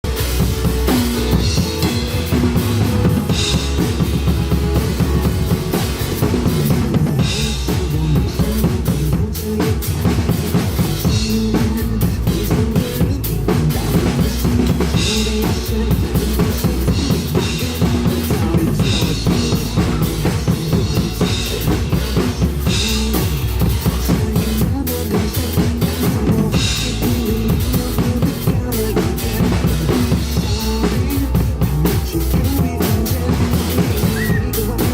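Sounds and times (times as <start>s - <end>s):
backing track with bass line: 0.0s - 34.9s
drum kit groove: 0.0s - 34.9s.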